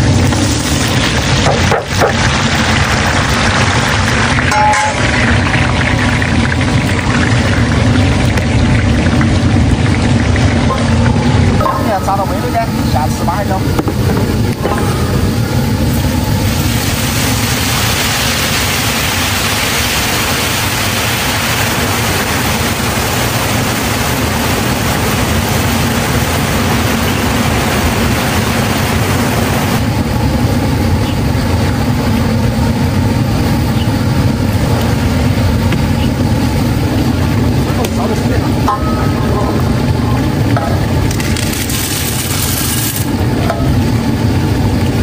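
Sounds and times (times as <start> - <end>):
hot oil sizzling in wok: 0.0 - 45.0.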